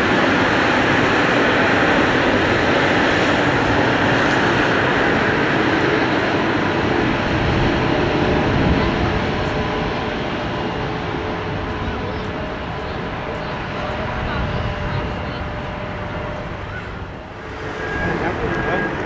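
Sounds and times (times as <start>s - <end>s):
jet engines at taxi power: 0.0s - 19.0s.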